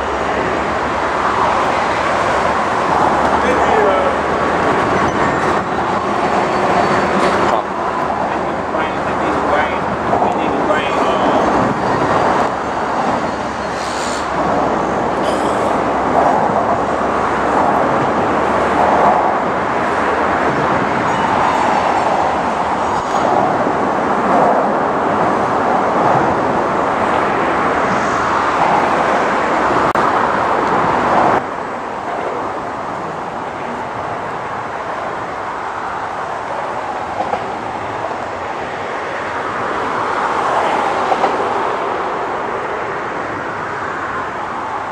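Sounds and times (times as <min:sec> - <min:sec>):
distant train rumble: 0:00.0 - 0:44.9
freight train rolling past: 0:00.0 - 0:44.9.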